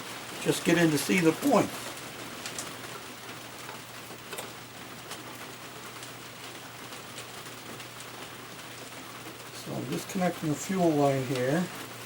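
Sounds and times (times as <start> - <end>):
steady hiss: 0.0 - 6.3, 8.3 - 12.0.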